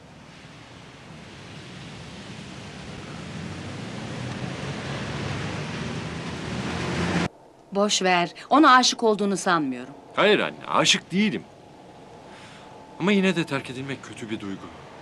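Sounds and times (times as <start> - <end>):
car driving past: 0.0 - 7.3, 9.9 - 15.0
traffic rush: 0.0 - 15.0.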